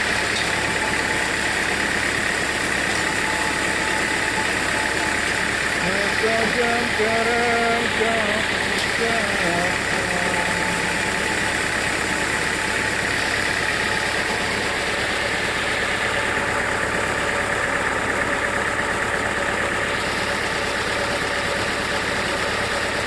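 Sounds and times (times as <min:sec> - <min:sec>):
saw high whine: 0:00.0 - 0:22.8
sawmill machinery humming: 0:00.0 - 0:23.0.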